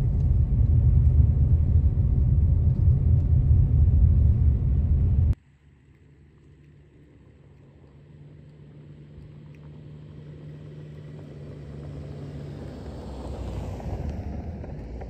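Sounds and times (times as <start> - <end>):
car approaching: 0.0 - 15.0.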